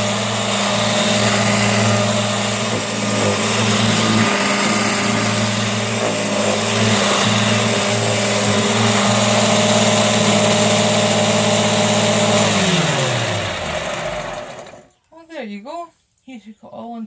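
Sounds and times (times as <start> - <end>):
upright vacuum cleaner running: 0.0 - 14.9.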